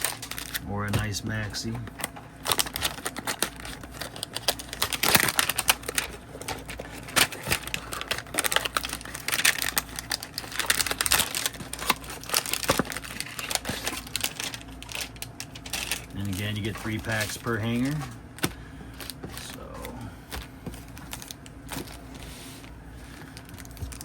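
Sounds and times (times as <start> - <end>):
card packaging crinkling: 0.0 - 24.0.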